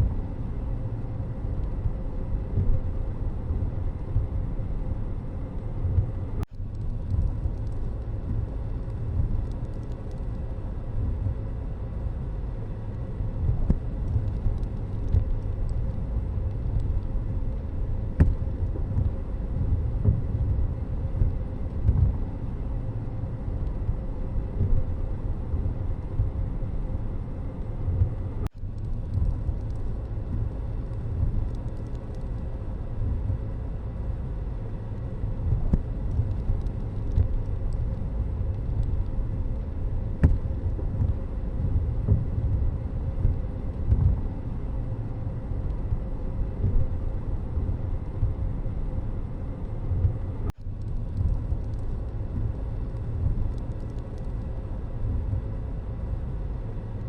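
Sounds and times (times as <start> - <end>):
road vehicle rumble: 0.0 - 57.0.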